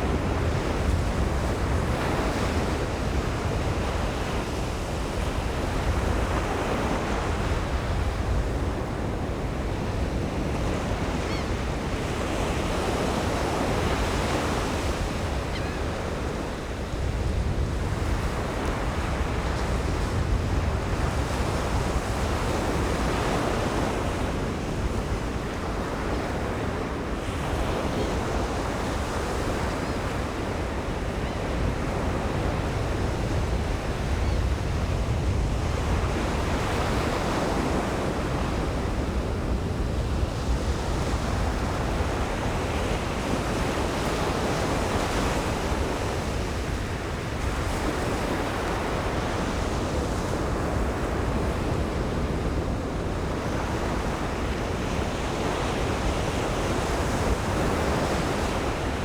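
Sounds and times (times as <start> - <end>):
ocean surf breaking on beach: 0.0 - 59.0
wind rumble on microphone: 0.0 - 59.0.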